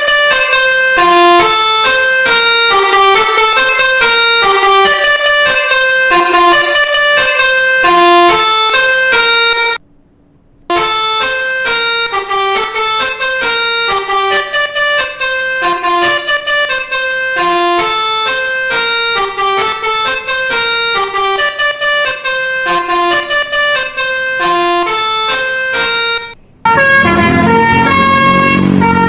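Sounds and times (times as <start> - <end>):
bus musical horn playing tune: 0.0 - 9.8, 10.7 - 29.0.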